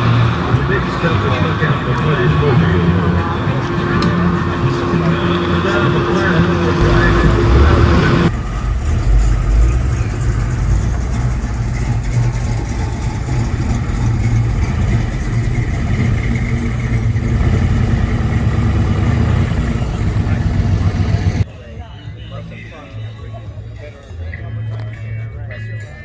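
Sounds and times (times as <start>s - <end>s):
car engine rumbling: 0.0s - 21.4s.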